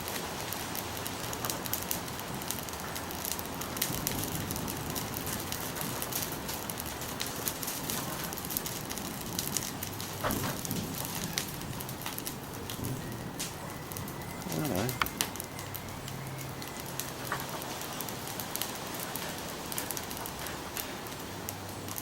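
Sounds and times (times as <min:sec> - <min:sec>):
bonfire burning with crackles: 0:00.0 - 0:22.0.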